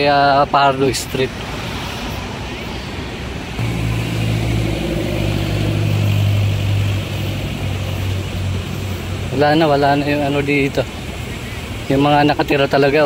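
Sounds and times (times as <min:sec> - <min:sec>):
street traffic: 0:00.0 - 0:13.0
engine droning: 0:01.2 - 0:13.0.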